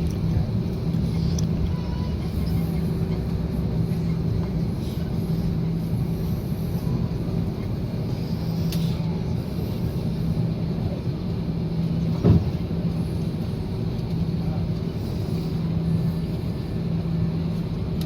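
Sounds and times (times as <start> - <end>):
vehicle interior droning hum: 0.0 - 18.0.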